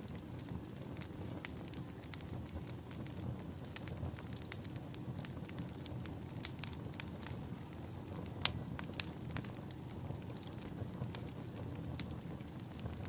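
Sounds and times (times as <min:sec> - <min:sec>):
flames rumbling: 0:00.0 - 0:13.0
sharp pops of fire: 0:00.0 - 0:13.0.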